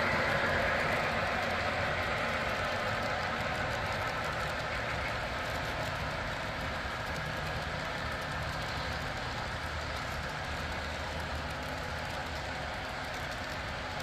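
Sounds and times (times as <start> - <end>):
model train wheels hissing on rails: 0.0 - 14.0.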